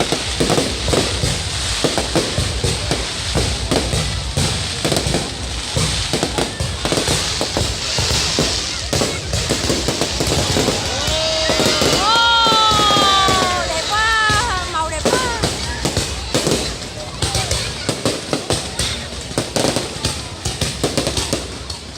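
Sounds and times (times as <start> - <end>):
fireworks bangs and crackling: 0.0 - 21.9.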